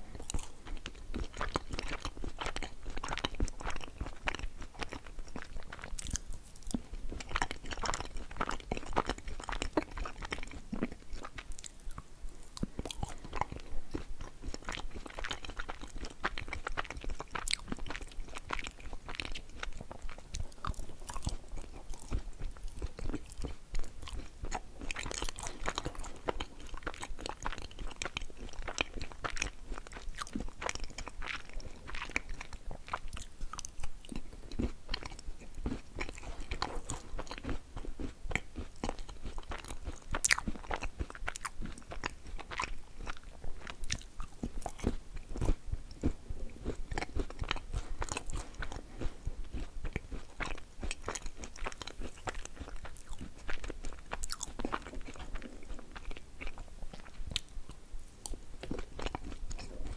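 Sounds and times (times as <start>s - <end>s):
crumbly crunching chewing: 0.0s - 59.9s.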